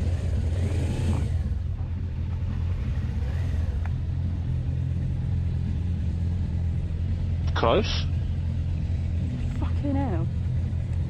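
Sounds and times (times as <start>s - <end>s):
motorcycle engine idling low: 0.0s - 11.0s.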